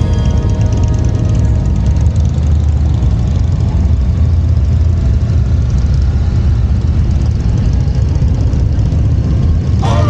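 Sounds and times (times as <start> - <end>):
motorcycle engine rumbling: 0.0 - 10.0
wind and road noise: 0.0 - 10.0.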